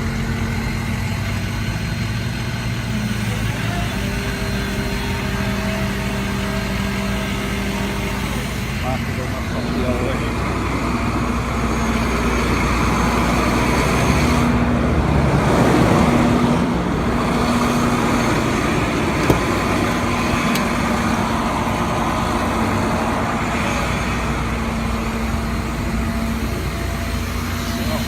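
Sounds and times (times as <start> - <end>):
humming tone: 0.0 - 28.0
tow truck engine running: 0.0 - 28.0.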